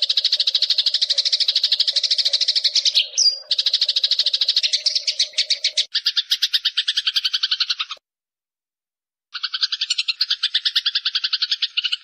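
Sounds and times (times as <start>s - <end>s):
songbird chattering trill: 0.0s - 8.0s, 9.3s - 12.0s.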